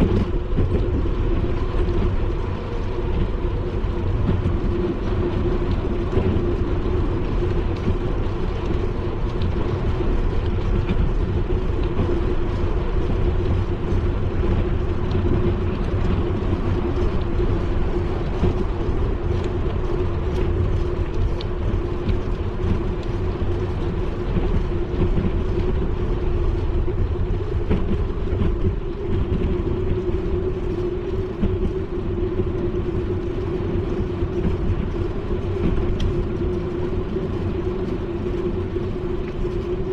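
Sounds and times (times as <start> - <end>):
constant hum: 0.0 - 39.9
wind rumble: 0.0 - 39.9.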